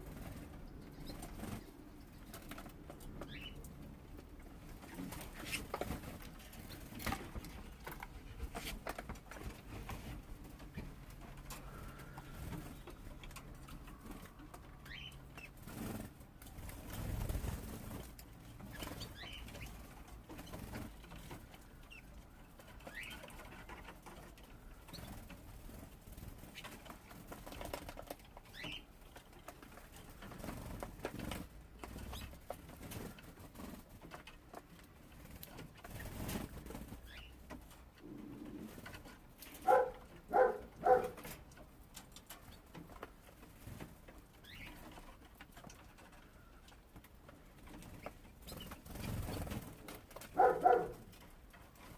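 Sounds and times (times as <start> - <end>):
birds rustling and fluttering: 0.0 - 51.9
canaries chirping: 0.0 - 51.9.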